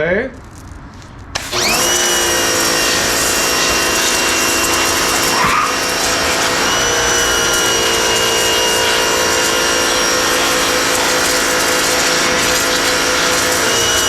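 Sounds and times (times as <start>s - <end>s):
pressure washer motor whine: 1.4s - 14.0s
spray hissing: 1.4s - 14.0s.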